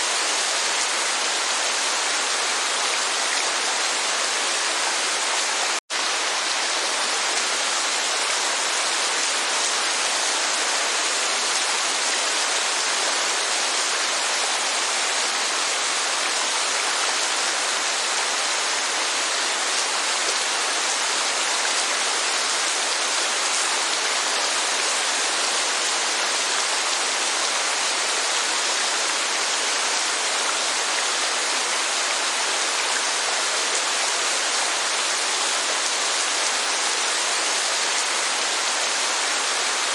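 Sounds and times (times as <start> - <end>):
heavy rain: 0.0 - 39.9
rushing falling water: 0.0 - 39.9.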